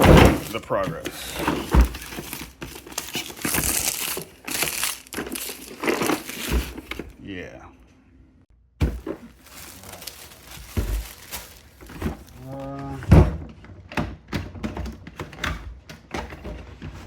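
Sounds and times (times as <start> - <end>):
hard objects thunking and clicking: 0.0 - 7.1, 8.8 - 17.0.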